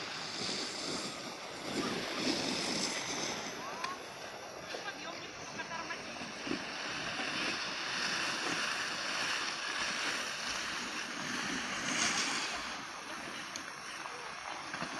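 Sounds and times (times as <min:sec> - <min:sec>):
skis sliding over snow: 0:00.0 - 0:14.9.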